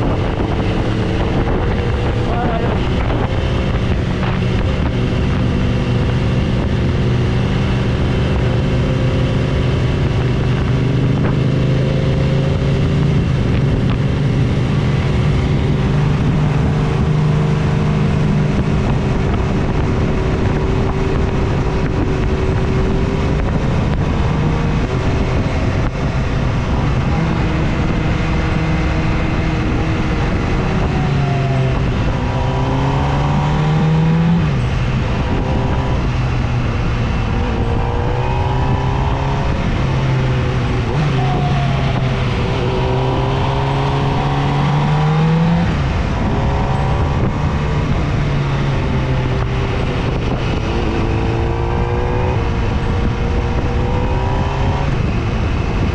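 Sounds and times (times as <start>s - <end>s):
motorcycle engine cruising: 0.0s - 55.9s
wind rushing over microphone: 0.0s - 55.9s.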